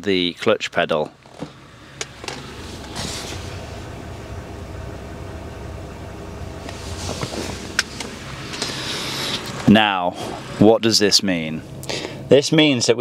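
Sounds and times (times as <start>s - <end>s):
car engine idling: 0.9s - 13.0s
engine rattle: 1.0s - 12.8s.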